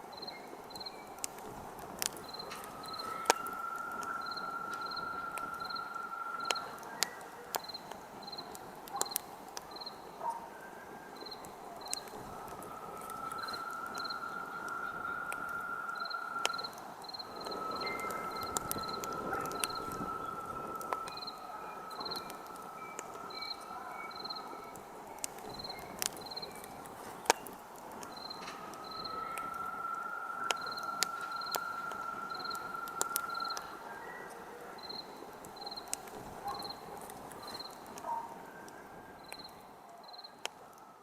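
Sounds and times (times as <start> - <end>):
campfire crackling and popping: 0.0 - 41.0
soft steady hiss: 0.0 - 41.0
thin steady whistle: 0.0 - 41.0
cricket chirping: 0.1 - 27.3, 28.0 - 40.4.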